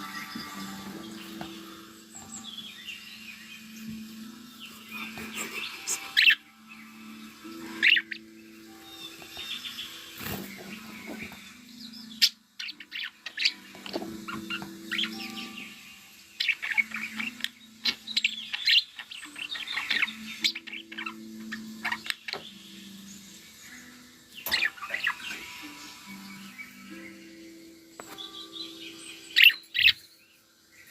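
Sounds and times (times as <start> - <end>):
budgerigars chirping: 0.0 - 27.1, 28.0 - 30.0.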